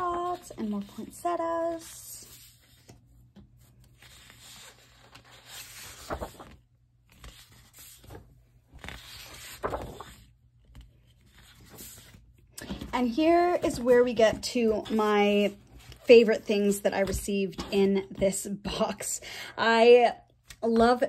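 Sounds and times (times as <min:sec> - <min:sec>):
paper sheets rustling: 0:00.0 - 0:18.3.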